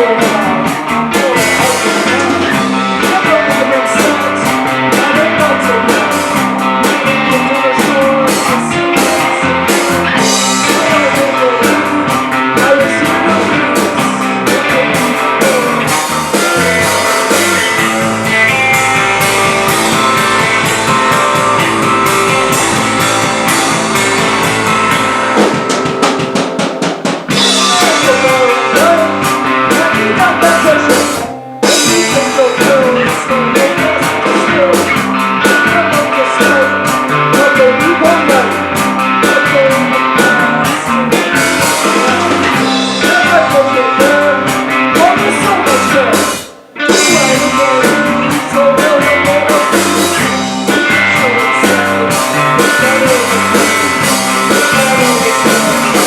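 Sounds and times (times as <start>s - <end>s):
person singing: 0.0s - 26.3s, 27.3s - 56.0s
bass guitar: 0.0s - 56.0s
drum kit: 0.0s - 56.0s
electric guitar: 0.0s - 56.0s.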